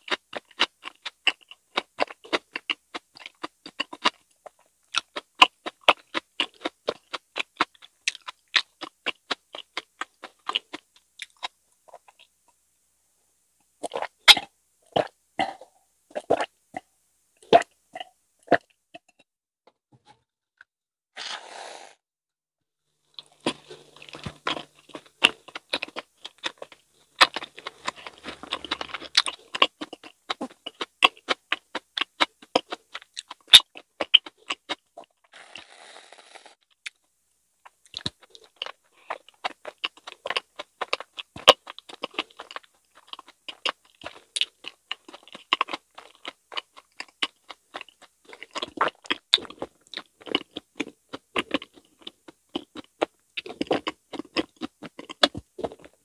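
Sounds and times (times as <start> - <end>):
chewing sticky soft food: 0.0 - 12.6, 13.6 - 19.3, 23.0 - 35.6, 36.7 - 56.0.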